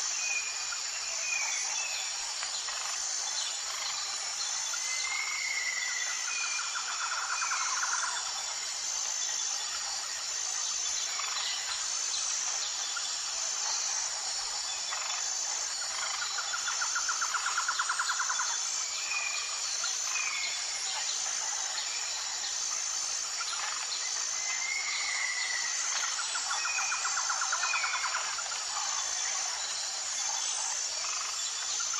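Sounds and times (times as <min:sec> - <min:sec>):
high insect drone: 0:00.0 - 0:31.9.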